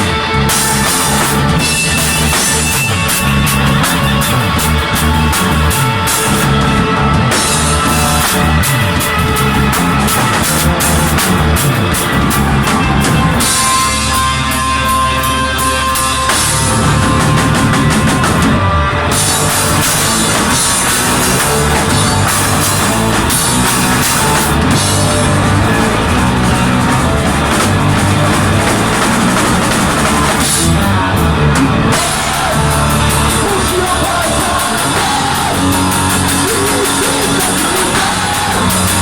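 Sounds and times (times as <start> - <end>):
rock band playing: 0.0 - 39.0.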